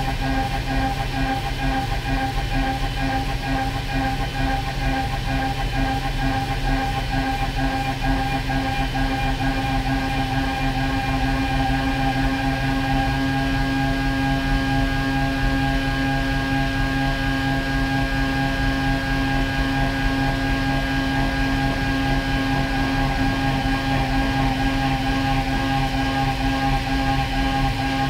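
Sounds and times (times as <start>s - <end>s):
milling machine whine cutting steel: 0.0s - 28.0s.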